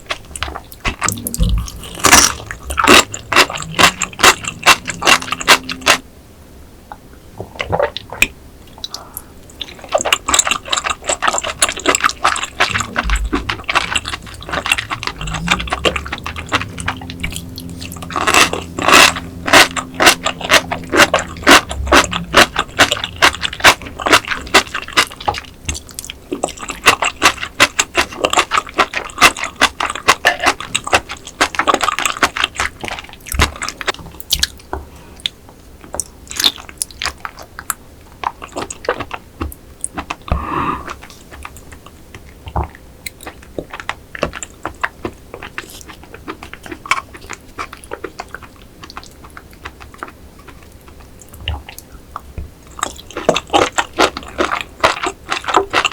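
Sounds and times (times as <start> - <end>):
wet chewing and mouth smacking: 0.0 - 6.0, 7.5 - 55.9.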